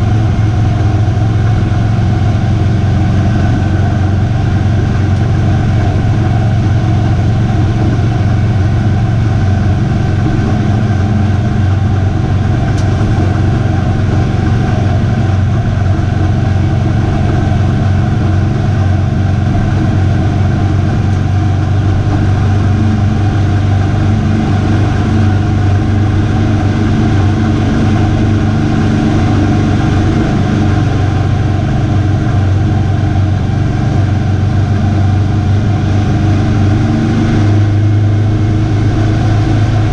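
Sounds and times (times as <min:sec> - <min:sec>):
race engine running hard: 0:00.0 - 0:39.9.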